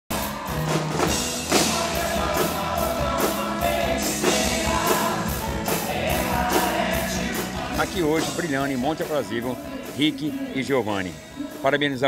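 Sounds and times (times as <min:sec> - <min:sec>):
drums: 0:00.1 - 0:12.0
man singing: 0:01.4 - 0:12.0.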